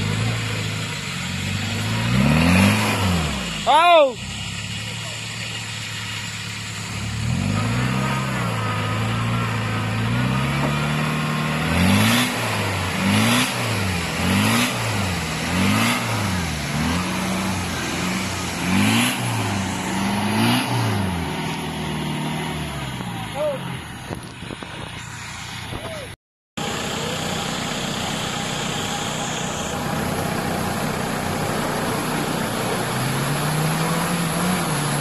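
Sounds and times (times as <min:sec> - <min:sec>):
diesel engine revving: 0:00.0 - 0:35.0
spinning tyres churning mud: 0:00.0 - 0:35.0.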